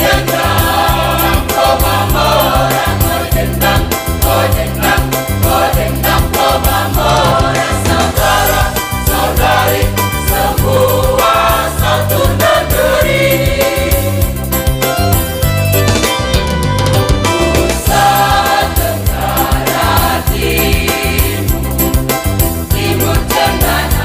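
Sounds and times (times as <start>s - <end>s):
mixed choir singing in harmony: 0.0s - 14.8s, 17.4s - 24.0s.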